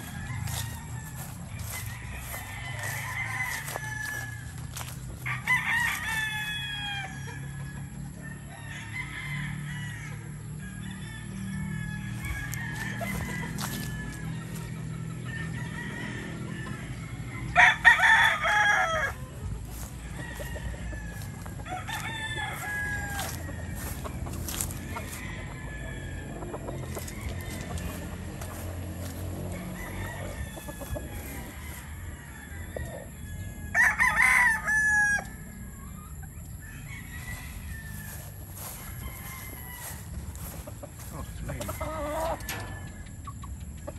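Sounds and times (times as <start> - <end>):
rooster crowing loudly: 0.0 - 14.4, 15.3 - 35.5, 36.6 - 43.1
fainter crowing and clucking birds: 0.0 - 43.9.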